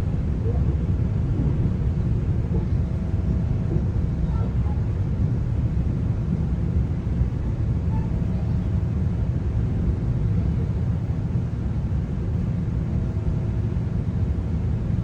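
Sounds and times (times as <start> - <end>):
low rumble inside train coach: 0.0 - 15.0.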